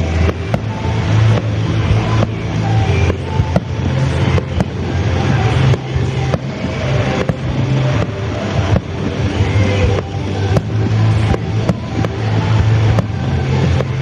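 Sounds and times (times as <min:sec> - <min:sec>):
fireworks bursting: 0:00.0 - 0:14.0
steady low rumble: 0:00.0 - 0:14.0.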